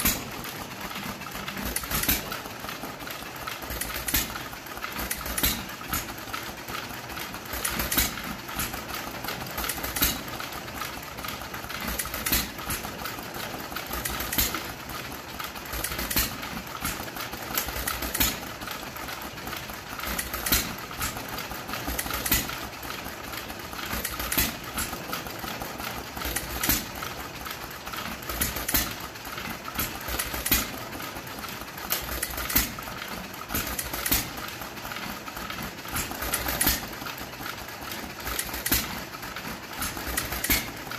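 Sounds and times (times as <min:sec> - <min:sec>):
steady mechanical clatter: 0:00.0 - 0:40.9.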